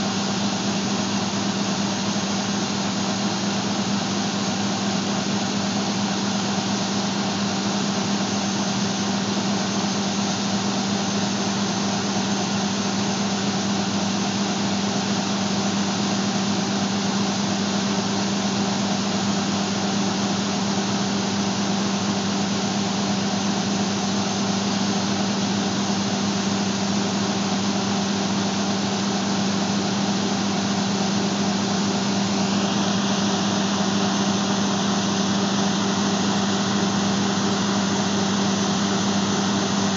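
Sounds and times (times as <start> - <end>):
combine engine drone: 0.0 - 39.9.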